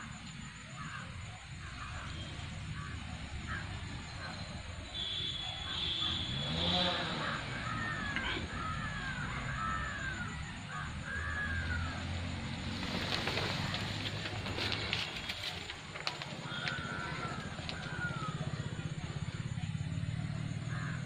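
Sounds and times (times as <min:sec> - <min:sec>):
bird calling: 0:01.6 - 0:19.6.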